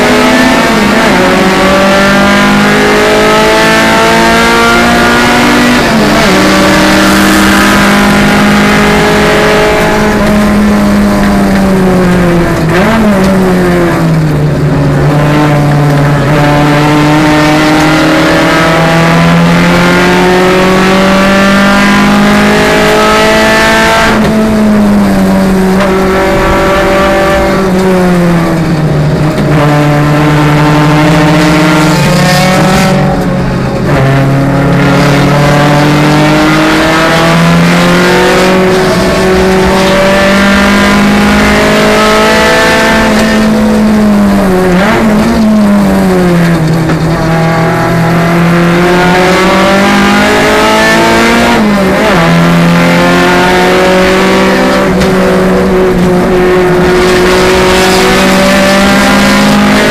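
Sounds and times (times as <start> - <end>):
car engine revving and downshifting: 0.0 - 59.9.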